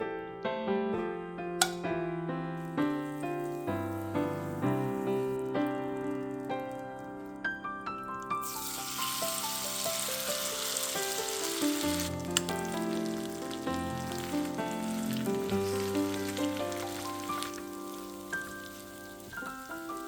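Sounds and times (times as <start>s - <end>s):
background piano music: 0.0s - 20.0s
food sizzling in frying pan: 2.8s - 7.2s, 8.0s - 20.0s.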